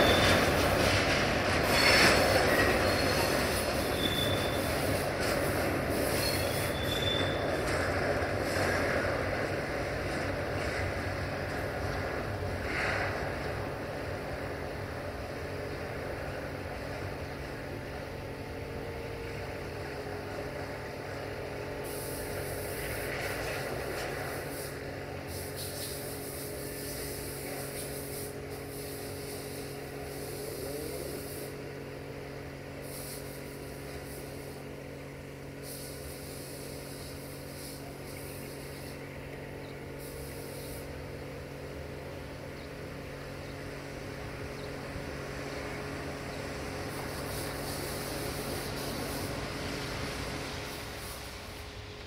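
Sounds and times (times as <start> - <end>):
diesel locomotive engine hum: 0.0 - 52.0.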